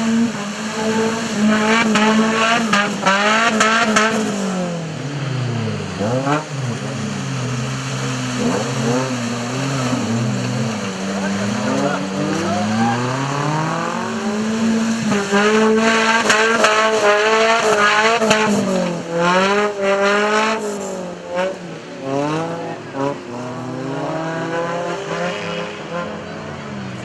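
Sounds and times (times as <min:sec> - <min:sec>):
engine revving hard: 0:00.0 - 0:27.0.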